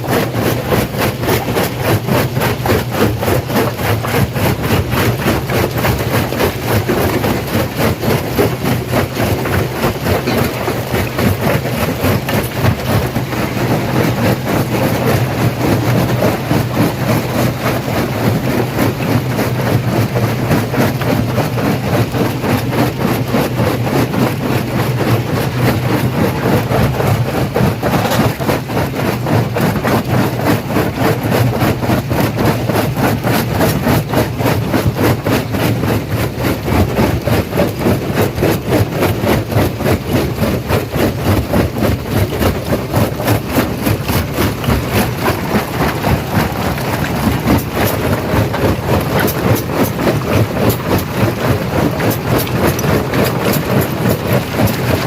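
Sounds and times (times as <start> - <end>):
stone crusher crunching rocks: 0.0 - 55.0.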